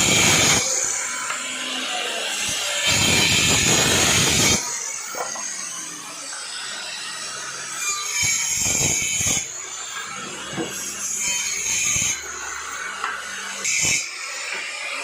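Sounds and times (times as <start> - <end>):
power tool cutting wood: 0.0 - 15.0.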